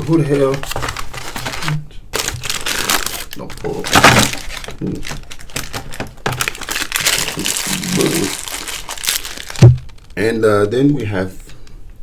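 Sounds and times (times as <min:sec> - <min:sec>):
packaging crinkling and rustling: 0:00.0 - 0:11.6.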